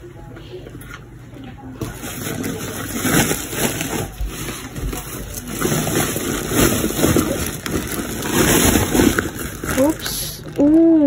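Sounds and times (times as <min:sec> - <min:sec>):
plastic sack rustling: 0:01.8 - 0:10.7.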